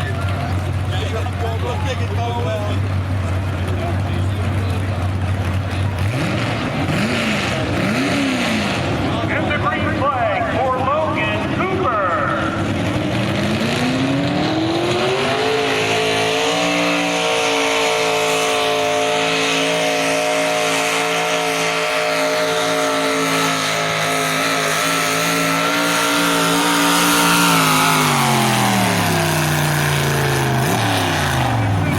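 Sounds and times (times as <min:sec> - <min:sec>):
tractor engine revving: 0:00.0 - 0:31.9.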